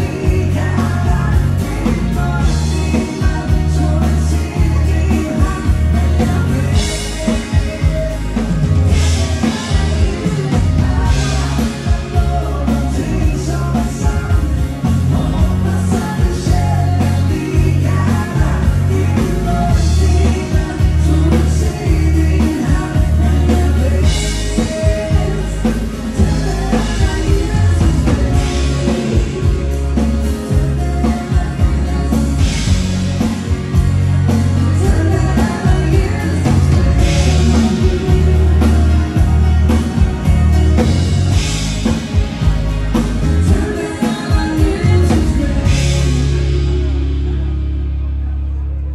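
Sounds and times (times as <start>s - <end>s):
band playing a ballad: 0.0s - 48.9s
person singing: 0.0s - 48.9s.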